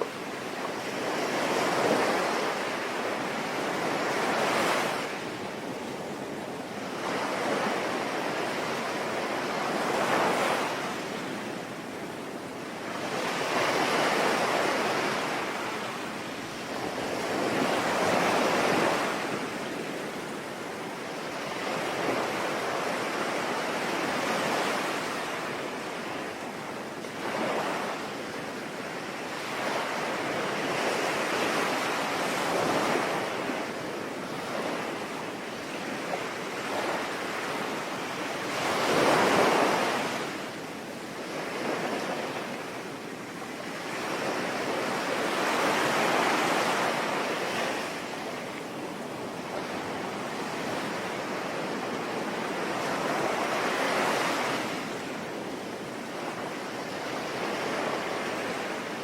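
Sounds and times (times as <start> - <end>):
sea waves washing on shore: 0.0 - 59.0.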